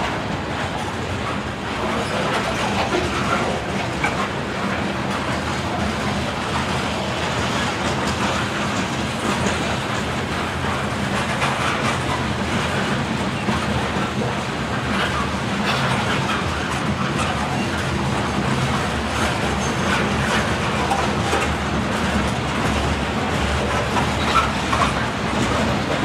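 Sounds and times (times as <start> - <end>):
train wheels rumbling on rail: 0.0 - 26.0
wheels clattering over rail joints: 0.0 - 26.0.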